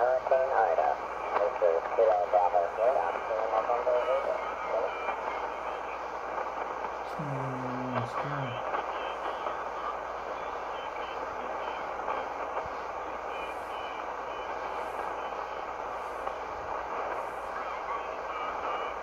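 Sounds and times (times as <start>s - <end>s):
faint radio tones: 0.0s - 19.0s
radio static hiss: 0.0s - 19.0s
radio voice transmissions: 0.0s - 19.0s.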